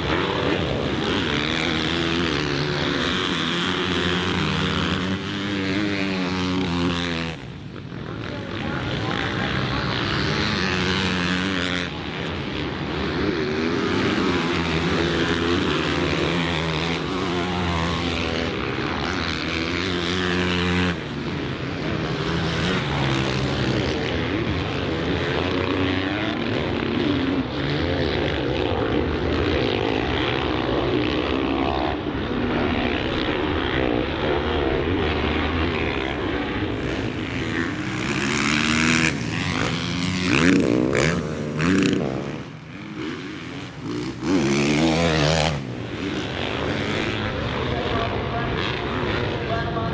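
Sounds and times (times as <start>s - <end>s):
motocross bike engine revving: 0.0s - 47.7s.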